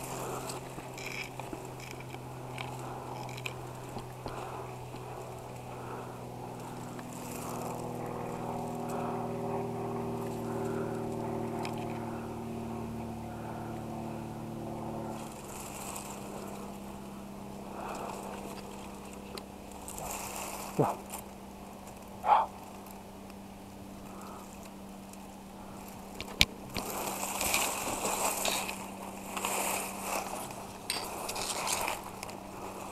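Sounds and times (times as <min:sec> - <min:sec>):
distant engine droning: 0:00.0 - 0:32.9.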